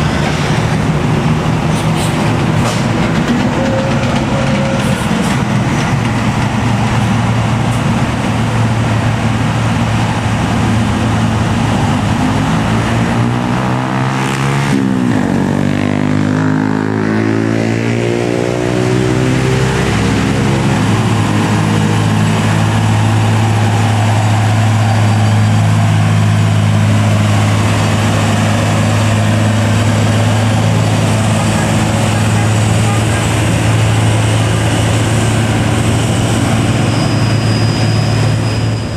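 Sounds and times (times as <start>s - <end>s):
diesel truck engine labouring: 0.0s - 38.9s.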